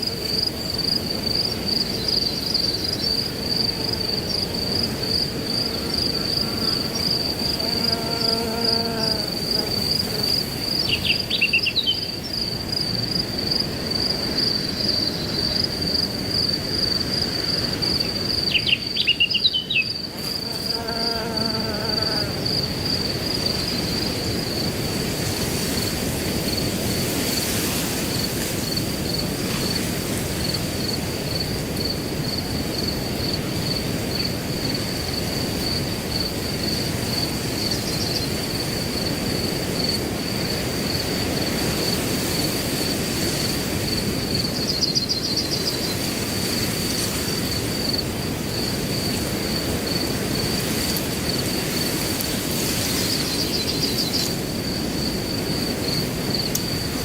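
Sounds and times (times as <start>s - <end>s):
cricket chirping trill: 0.0s - 57.0s
wind rushing through grass: 0.0s - 57.0s.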